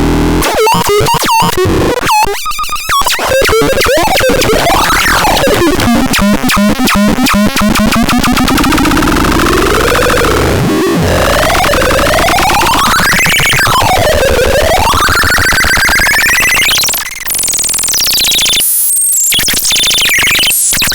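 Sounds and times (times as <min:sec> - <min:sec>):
harsh electronic synthesizer tones: 0:00.0 - 0:20.9.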